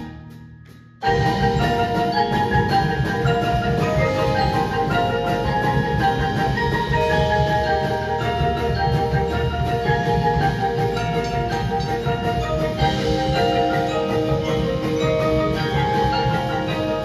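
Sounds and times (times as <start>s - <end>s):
electric bass: 0.0s - 17.0s
marimbas and mallet keyboards: 1.0s - 17.0s.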